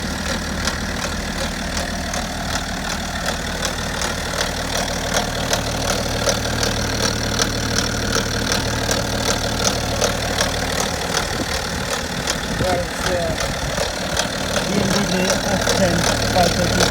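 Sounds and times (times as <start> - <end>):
diesel engine idling: 0.0 - 16.9
regular engine knock: 0.0 - 16.9.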